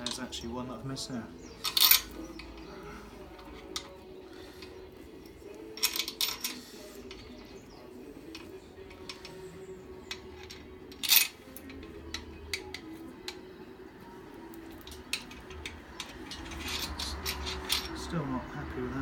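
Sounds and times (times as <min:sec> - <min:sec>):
metal bolts and tools clinking: 0:00.0 - 0:00.5, 0:01.4 - 0:18.2.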